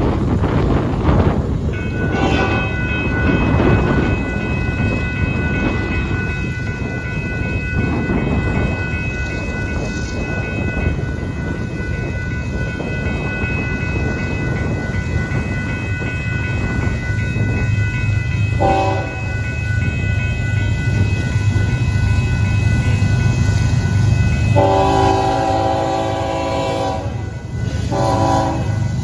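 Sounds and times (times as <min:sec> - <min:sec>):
freight train rumbling past: 0:00.0 - 0:29.0
steady high-pitched tones: 0:01.6 - 0:29.0.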